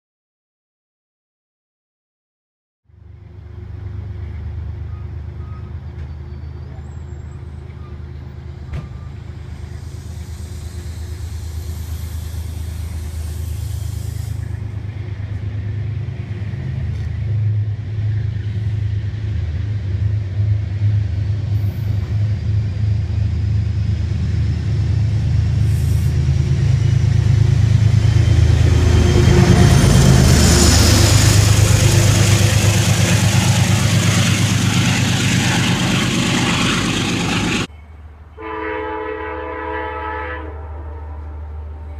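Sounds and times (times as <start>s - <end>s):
diesel locomotive engine drone: 2.9s - 41.9s
train wheels running on rails: 3.6s - 37.8s.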